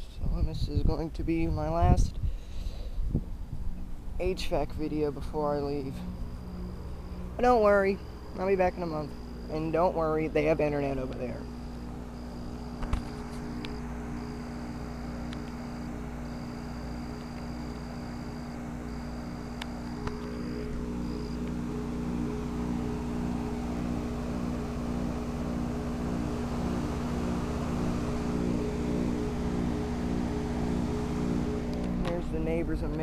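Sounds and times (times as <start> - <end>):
compressor hum: 0.0 - 33.0
condenser fan rushing: 0.0 - 33.0.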